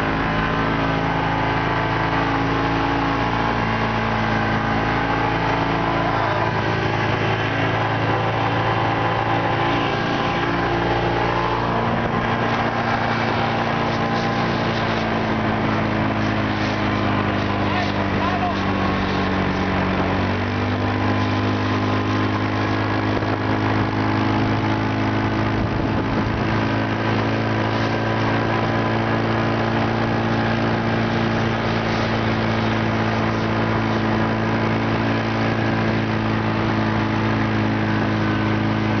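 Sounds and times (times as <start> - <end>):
vehicle engine humming: 0.0 - 39.0
wind and tyre noise on snow: 0.0 - 39.0.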